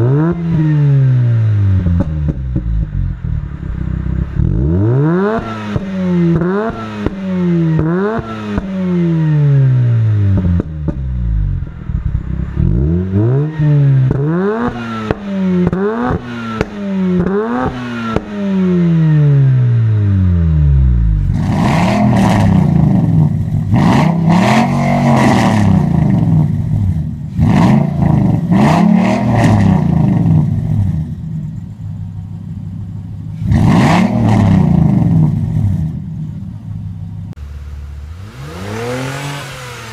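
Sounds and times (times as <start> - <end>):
rotary engine revving: 0.0 - 31.3, 33.4 - 35.9, 37.3 - 39.9.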